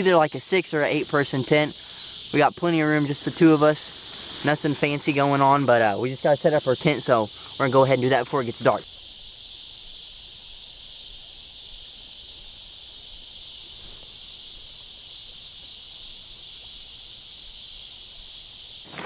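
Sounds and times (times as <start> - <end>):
insects chirping chorus: 0.0 - 19.0.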